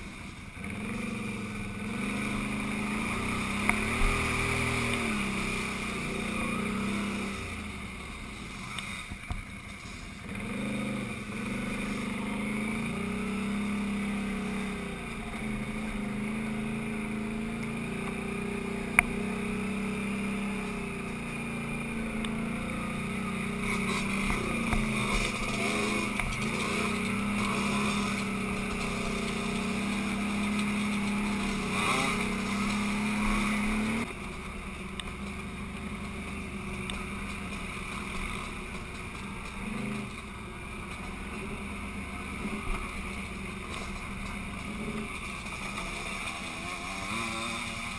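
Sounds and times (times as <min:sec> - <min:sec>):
quad engine running: 0:00.0 - 0:47.9.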